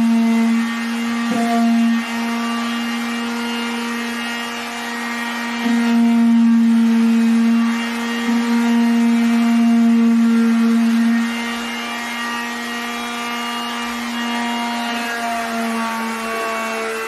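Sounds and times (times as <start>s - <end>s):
orbital sander running: 0.0s - 17.0s.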